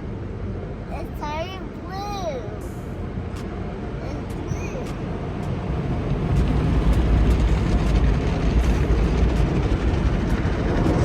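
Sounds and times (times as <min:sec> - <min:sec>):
car wash machinery rumbling: 0:00.0 - 0:11.0.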